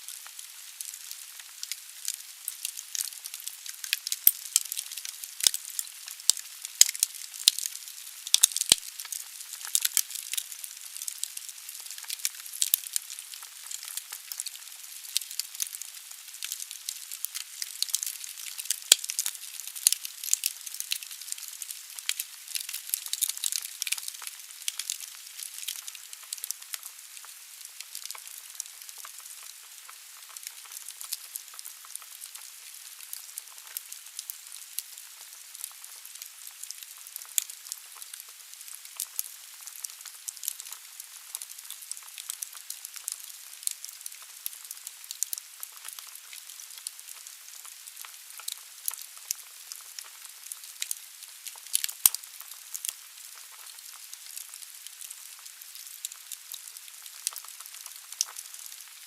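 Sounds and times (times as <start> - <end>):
wood fire crackling and popping: 0.1 - 59.0.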